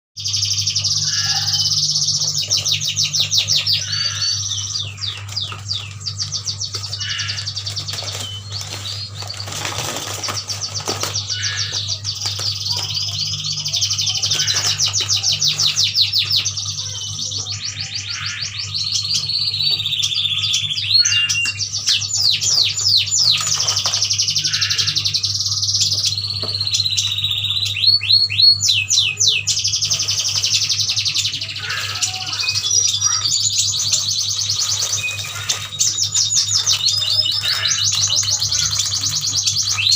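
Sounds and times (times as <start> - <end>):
birds chirping and twittering: 0.2 - 39.9
low electrical hum: 0.2 - 39.9.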